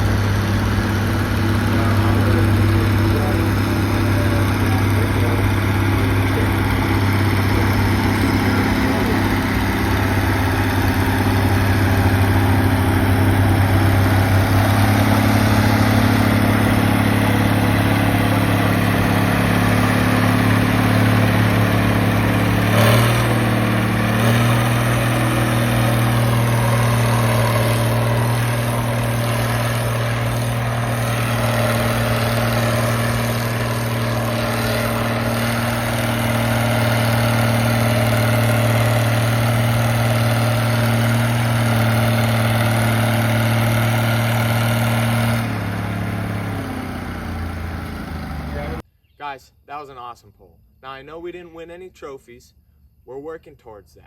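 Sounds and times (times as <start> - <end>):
tractor engine running hard: 0.0 - 48.8.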